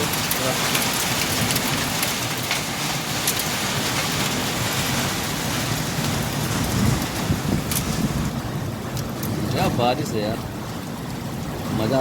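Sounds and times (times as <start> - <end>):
heavy rain on a road: 0.0 - 12.0.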